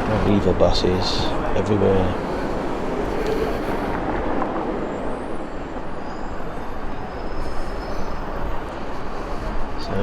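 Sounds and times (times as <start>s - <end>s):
street traffic road noise: 0.0s - 10.0s.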